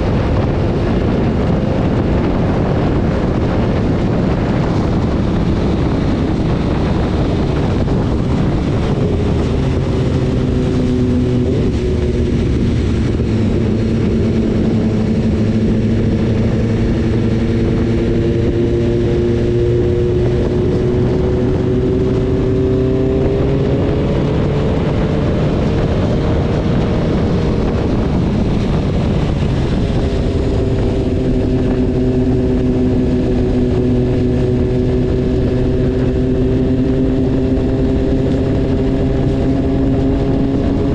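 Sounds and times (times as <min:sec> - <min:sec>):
motorcycle engine running: 0:00.0 - 0:40.9
wind and road rush: 0:00.0 - 0:40.9.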